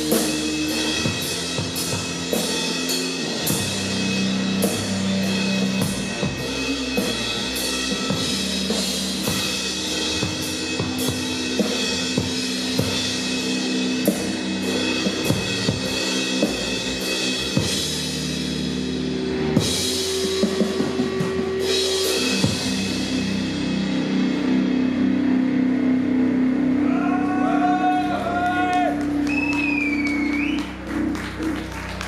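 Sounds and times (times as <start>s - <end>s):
slow doom rock: 0.0s - 31.2s.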